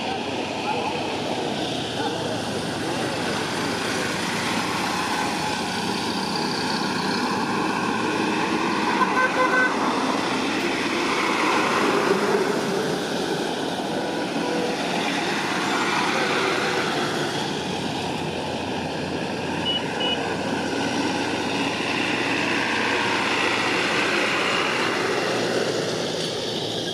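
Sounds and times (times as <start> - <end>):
jet engines roaring: 0.0 - 26.9.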